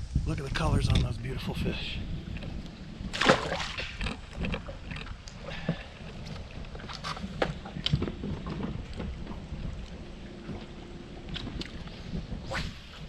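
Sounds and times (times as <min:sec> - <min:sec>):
wind buffeting microphone: 0:00.0 - 0:13.0
water slapping boat hull: 0:00.6 - 0:13.0.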